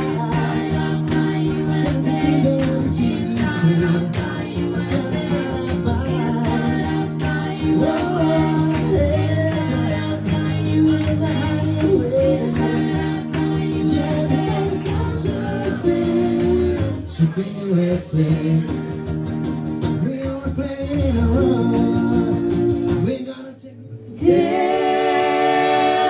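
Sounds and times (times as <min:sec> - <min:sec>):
live country rock band: 0:00.0 - 0:23.2.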